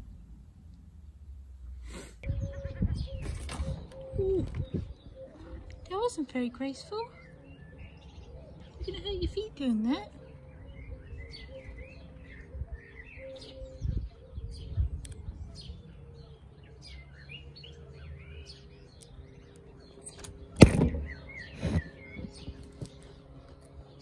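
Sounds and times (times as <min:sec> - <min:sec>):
faint steady hum: 0:00.0 - 0:24.0
birds chirping and singing: 0:02.2 - 0:24.0.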